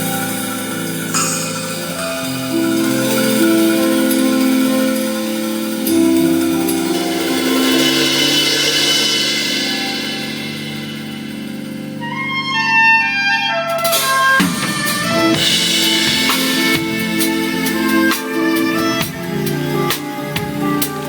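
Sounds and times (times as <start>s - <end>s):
drum kit with crashing cymbals: 0.0s - 21.0s
instrumental music with wind-like tones: 0.0s - 21.0s.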